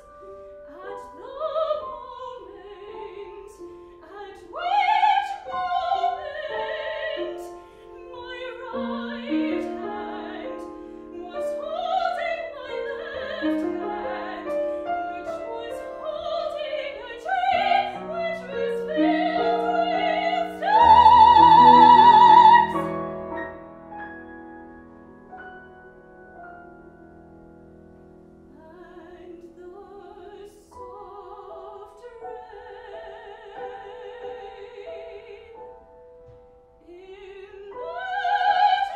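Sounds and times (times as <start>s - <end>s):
woman singing opera: 0.0s - 23.0s, 28.5s - 35.8s, 36.8s - 38.9s
grand piano: 0.0s - 38.9s.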